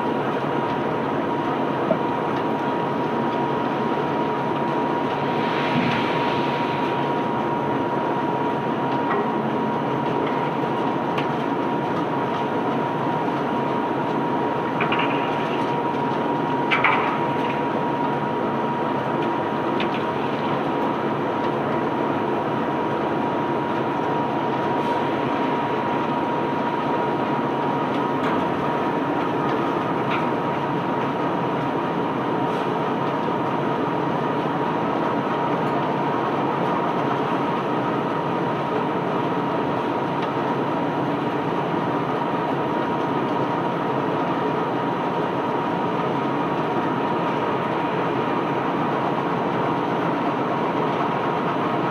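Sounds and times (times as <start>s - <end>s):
conveyor belt rumbling rattle: 0.0s - 51.9s.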